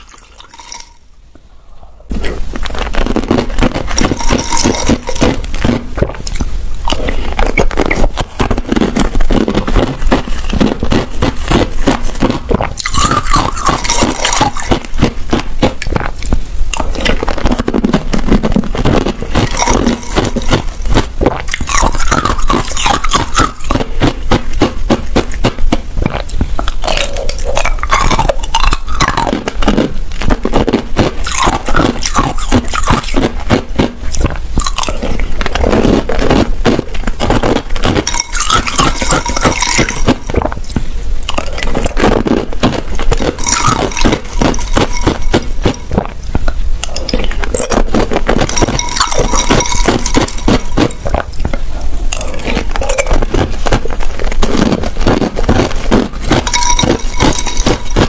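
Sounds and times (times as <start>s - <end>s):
ice crunching between teeth: 0.0s - 1.0s, 2.1s - 58.0s.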